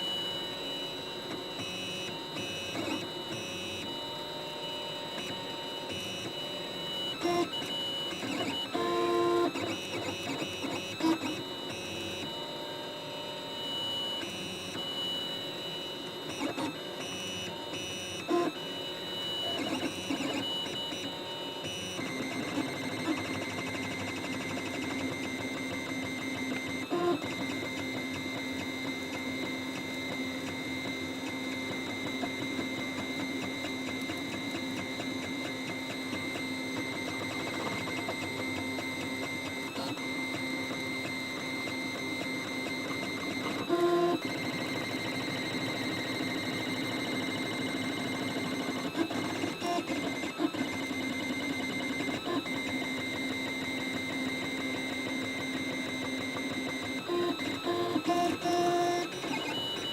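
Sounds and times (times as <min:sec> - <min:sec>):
printer chirps: 0:00.0 - 0:59.9.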